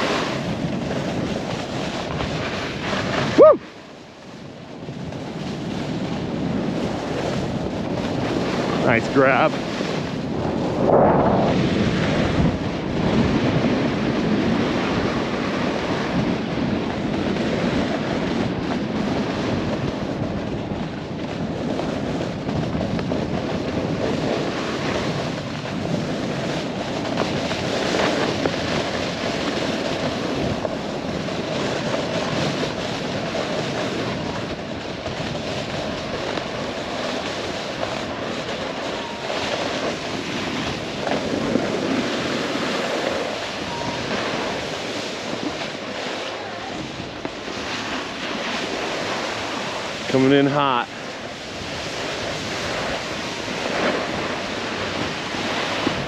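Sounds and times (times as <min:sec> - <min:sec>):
snowboard sliding over snow: 0:00.0 - 0:56.0
wind on microphone: 0:00.0 - 0:56.0.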